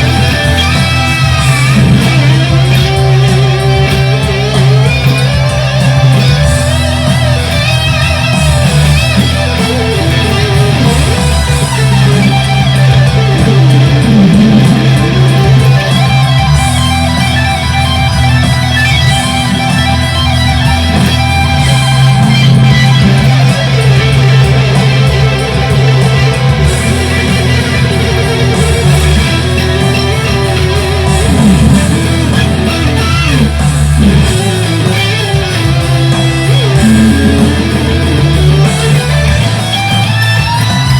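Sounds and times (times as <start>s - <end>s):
electric guitar lead lines: 0.0s - 40.9s
low bass notes: 0.0s - 40.9s.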